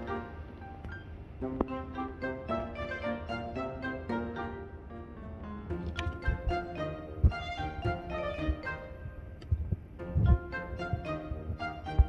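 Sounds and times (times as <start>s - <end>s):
violin music: 0.0s - 12.0s.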